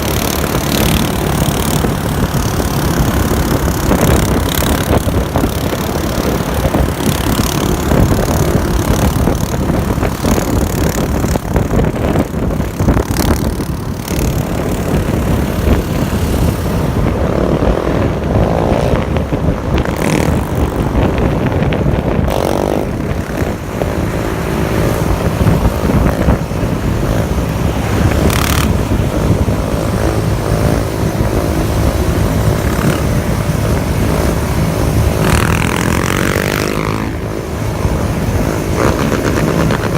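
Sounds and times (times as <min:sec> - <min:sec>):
atv and motorcycle engines revving: 0:00.0 - 0:39.9.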